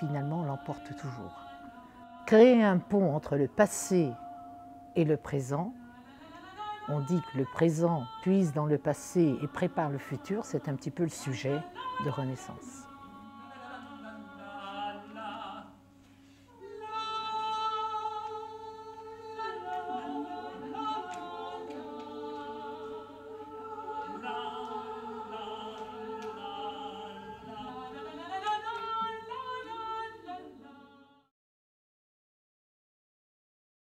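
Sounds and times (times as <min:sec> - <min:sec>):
a cappella voices singing: 0:00.0 - 0:04.4, 0:05.0 - 0:31.3.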